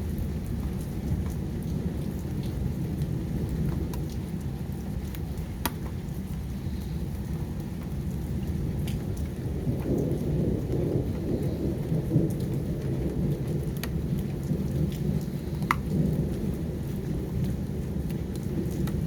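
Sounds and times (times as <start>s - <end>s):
raindrops tapping: 0.0s - 19.0s
torrential rain pouring: 0.0s - 19.0s.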